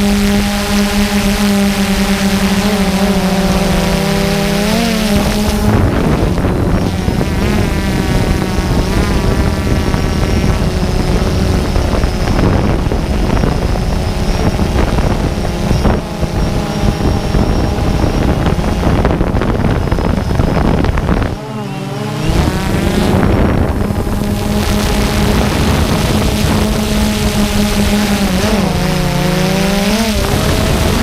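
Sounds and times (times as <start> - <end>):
engine running: 0.0 - 31.0
wind noise on microphone: 0.0 - 31.0.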